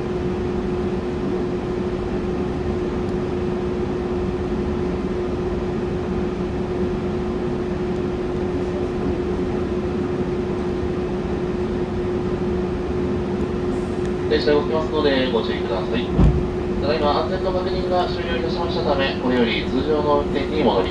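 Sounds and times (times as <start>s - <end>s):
train cabin hum: 0.0s - 20.9s.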